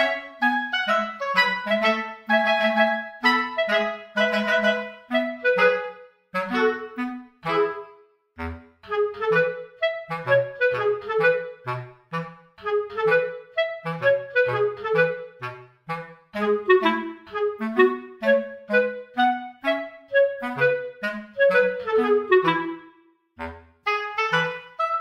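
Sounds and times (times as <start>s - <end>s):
bouncy melody over bass line: 0.0s - 25.0s.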